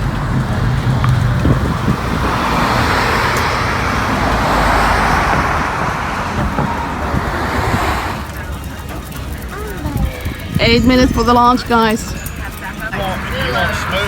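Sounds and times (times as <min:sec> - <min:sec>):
vehicle tyre and engine noise: 0:00.0 - 0:14.0.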